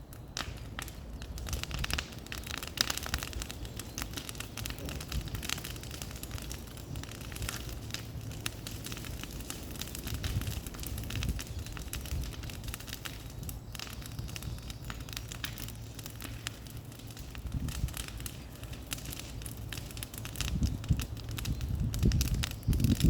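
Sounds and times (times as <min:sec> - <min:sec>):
bonfire crackling and popping: 0:00.0 - 0:23.0
low fire rumble: 0:00.0 - 0:23.0.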